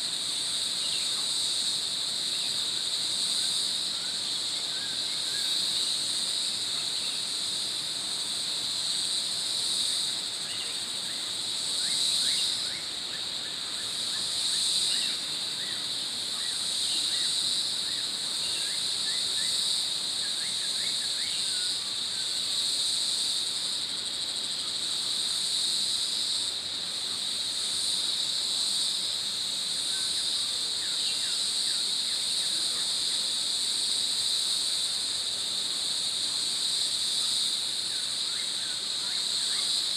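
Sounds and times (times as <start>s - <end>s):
high-pitched insect drone: 0.0s - 39.9s
insect chirps: 0.0s - 39.9s.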